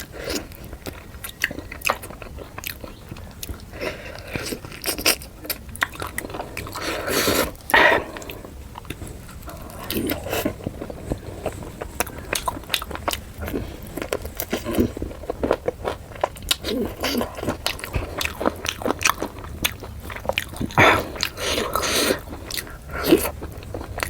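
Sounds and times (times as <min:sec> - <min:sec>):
biting and chewing food: 0:00.0 - 0:24.0.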